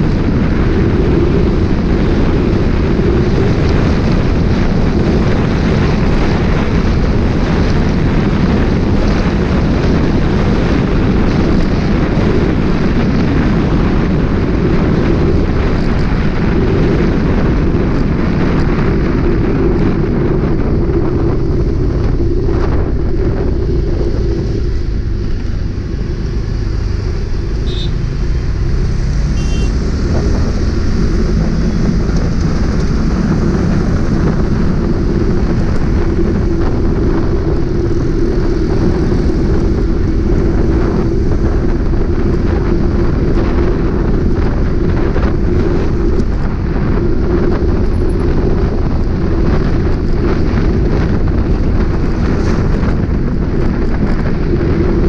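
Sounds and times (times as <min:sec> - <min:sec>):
motorcycle engine running: 0:00.0 - 0:55.0
wind rushing on microphone: 0:00.0 - 0:55.0.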